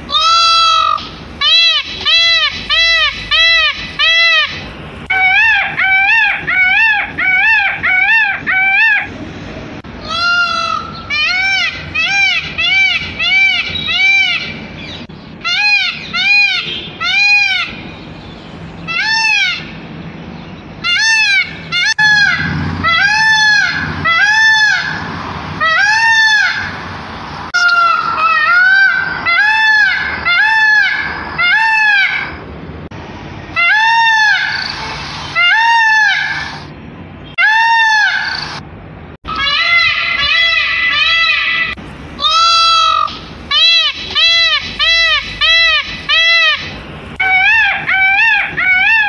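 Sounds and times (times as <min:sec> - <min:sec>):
peacock calling: 0:00.0 - 0:09.4, 0:10.0 - 0:19.9, 0:20.7 - 0:32.5, 0:33.4 - 0:49.0.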